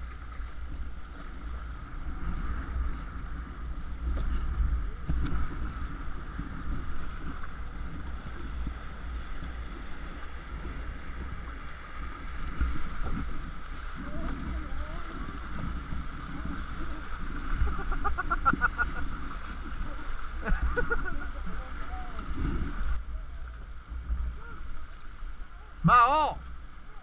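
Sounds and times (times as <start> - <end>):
wind rumbling on microphone: 0.0 - 25.8
river water rushing and splashing: 0.0 - 27.0.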